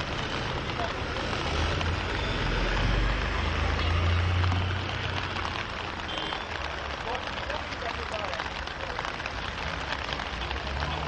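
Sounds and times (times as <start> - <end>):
fire truck engine rumble: 0.0 - 11.0
rain hissing: 0.0 - 11.0
tyres on wet asphalt: 0.0 - 11.0.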